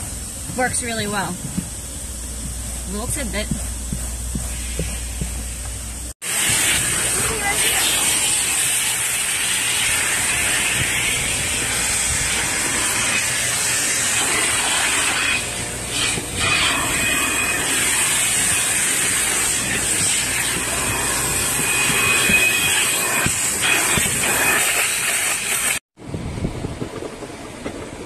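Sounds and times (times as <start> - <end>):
vacuum hoses hissing suction: 0.0 - 25.8.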